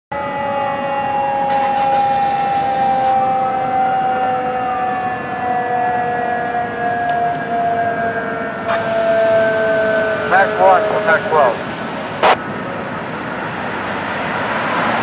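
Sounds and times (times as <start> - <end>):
steady siren tone sinking in pitch: 0.1 - 14.1
wailing siren: 0.1 - 15.0.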